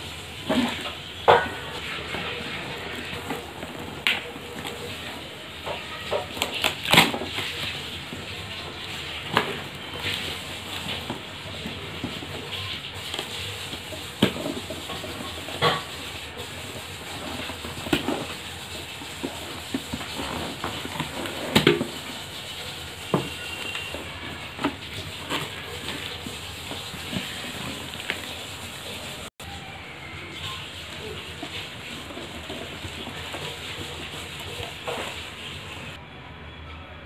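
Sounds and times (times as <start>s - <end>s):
cardboard and tape rustling: 0.0s - 29.3s, 30.2s - 36.0s.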